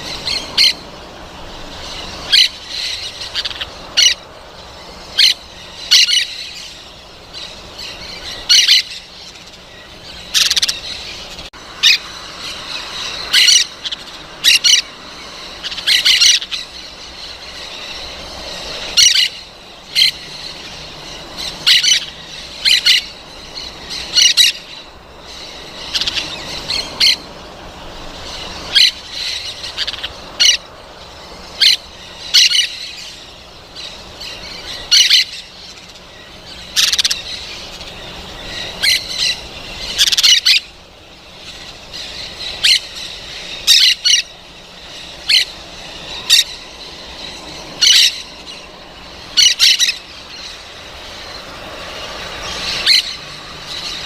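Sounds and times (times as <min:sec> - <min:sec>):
parrots squawking: 0:00.0 - 0:54.0.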